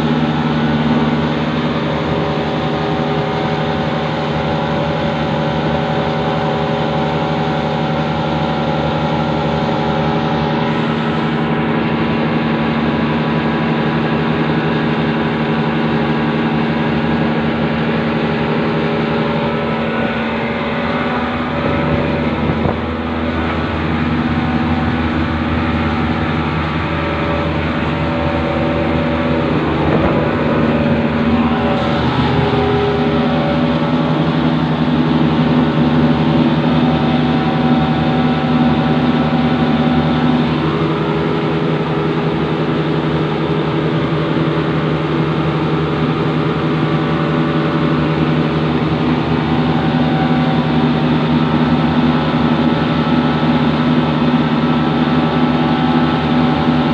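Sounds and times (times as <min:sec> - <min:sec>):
car engine running: 0:00.0 - 0:56.9.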